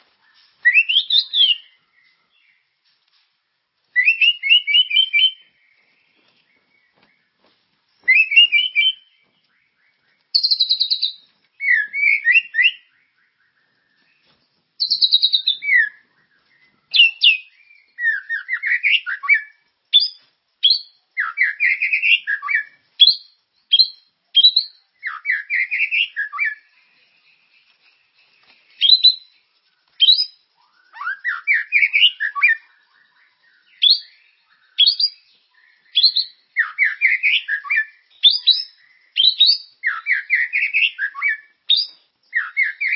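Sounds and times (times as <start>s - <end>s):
songbird singing rich whistles: 0.0s - 2.8s, 3.5s - 42.9s.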